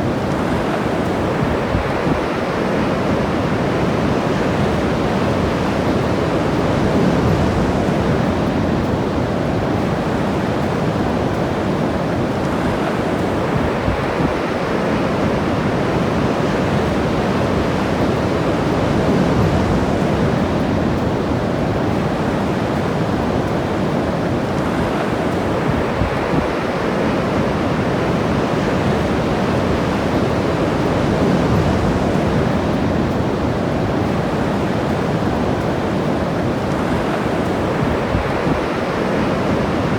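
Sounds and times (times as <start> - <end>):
ocean surf breaking on a beach: 0.0 - 39.9
wind on microphone: 0.0 - 39.9.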